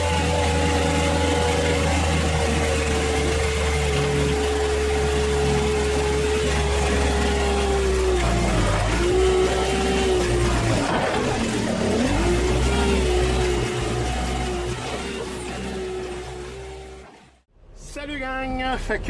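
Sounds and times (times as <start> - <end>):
engine whine: 0.0 - 17.8
heavy truck engine droning: 0.0 - 18.0.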